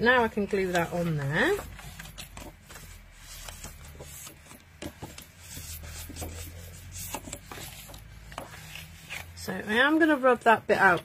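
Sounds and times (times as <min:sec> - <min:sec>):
paper rustling and sliding: 0:00.4 - 0:09.4.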